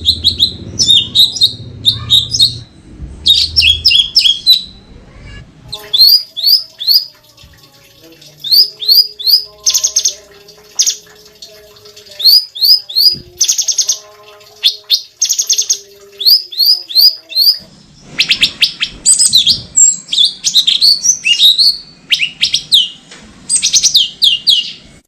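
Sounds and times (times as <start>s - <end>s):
songbird singing: 0.0s - 7.4s, 8.1s - 24.9s.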